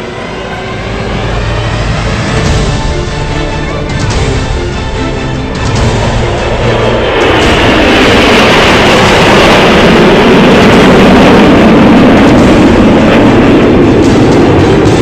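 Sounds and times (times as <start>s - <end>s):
jet aircraft passing overhead: 0.0s - 15.0s.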